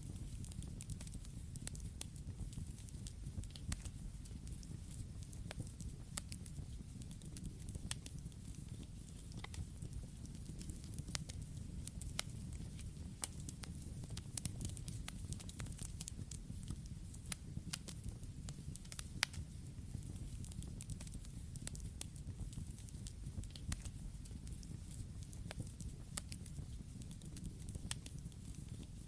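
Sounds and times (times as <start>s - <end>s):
fire crackling and popping: 0.0s - 29.0s
campfire flames rumbling: 0.1s - 29.0s.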